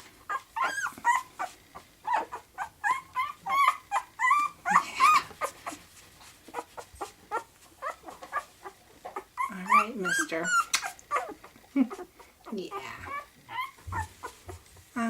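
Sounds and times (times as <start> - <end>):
puppy whimpering and squealing: 0.3 - 5.8, 6.5 - 14.6.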